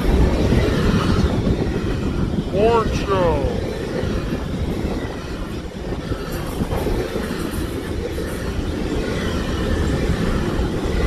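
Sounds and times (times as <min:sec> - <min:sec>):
freight train rumbling: 0:00.0 - 0:11.0.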